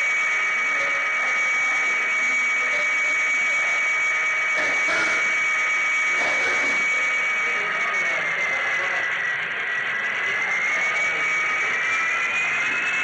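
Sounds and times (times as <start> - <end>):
model train motor whine: 0.0 - 13.0.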